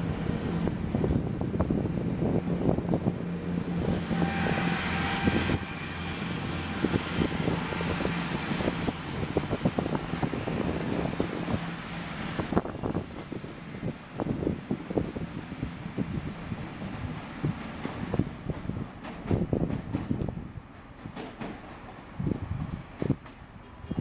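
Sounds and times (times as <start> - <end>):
diesel train engine droning: 0.0 - 24.0
wind thumping on microphone: 0.1 - 4.2, 6.4 - 23.4.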